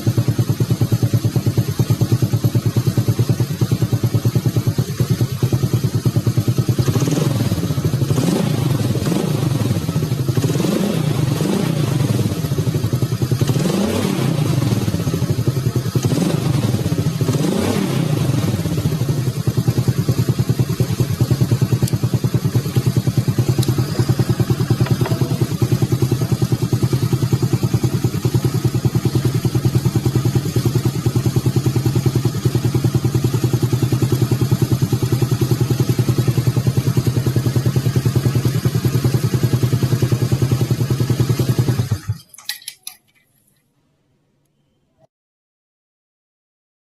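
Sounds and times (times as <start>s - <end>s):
motorcycle engine running: 0.0s - 42.3s.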